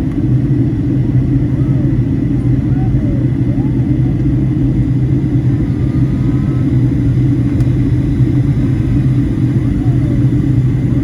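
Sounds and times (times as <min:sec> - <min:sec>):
airliner cabin engine rumble: 0:00.0 - 0:11.0
faint steady whine: 0:00.0 - 0:11.0.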